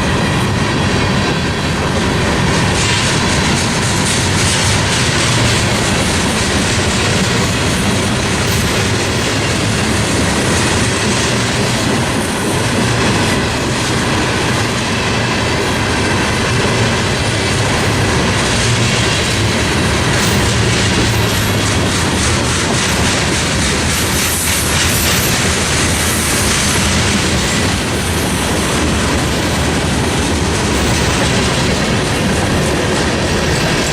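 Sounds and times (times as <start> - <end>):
clickety-clack over rail joints: 0.0 - 33.9
train wheels rumbling on rail: 0.0 - 33.9.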